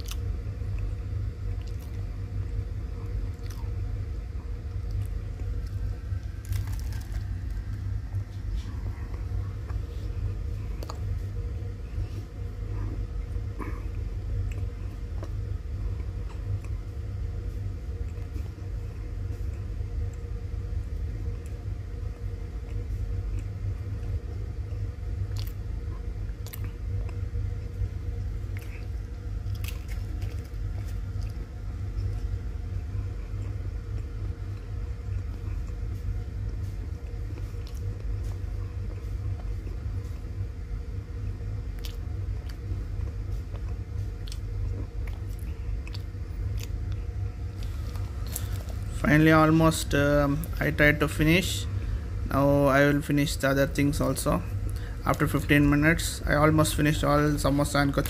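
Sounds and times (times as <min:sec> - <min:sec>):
chewing crisp pastry: 0:00.0 - 0:40.5, 0:41.1 - 0:49.0
low hum: 0:00.0 - 0:58.0.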